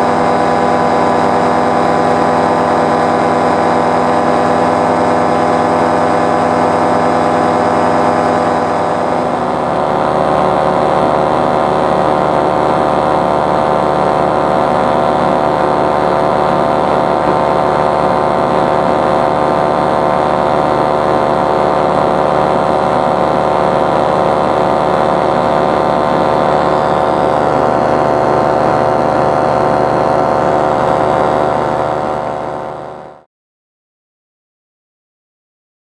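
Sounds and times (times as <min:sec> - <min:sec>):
paramotor engine droning: 0:00.0 - 0:33.3.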